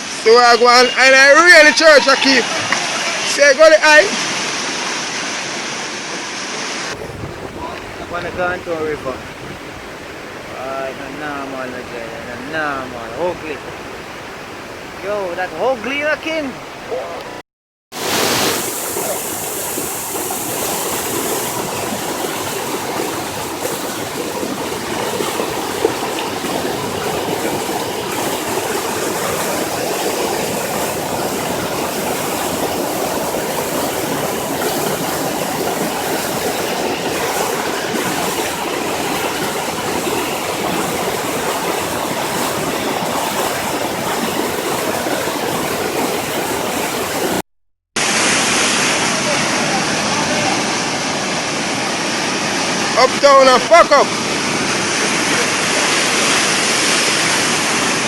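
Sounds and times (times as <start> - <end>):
flood river rushing: 0.0 - 17.4, 18.0 - 47.4, 48.0 - 58.0.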